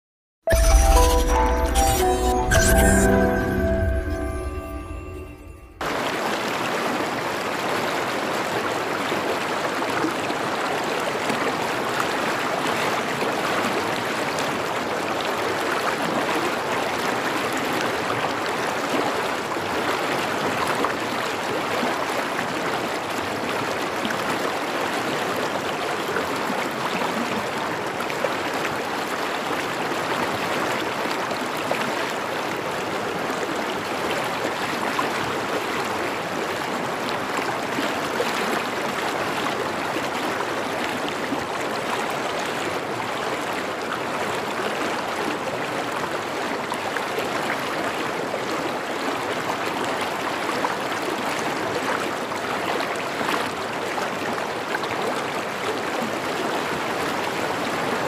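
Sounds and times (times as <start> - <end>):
stream water flowing: 3.3 - 58.0.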